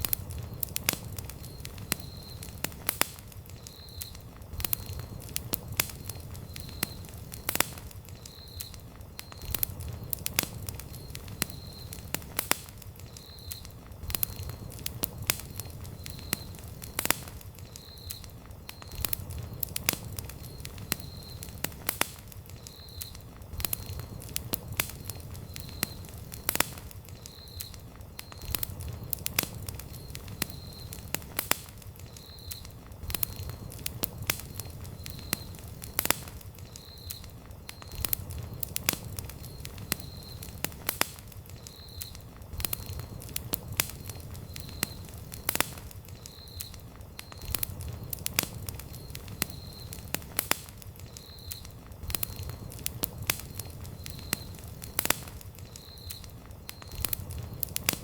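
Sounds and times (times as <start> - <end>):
campfire crackling: 0.0 - 58.0
low rumble of flames: 0.0 - 58.0.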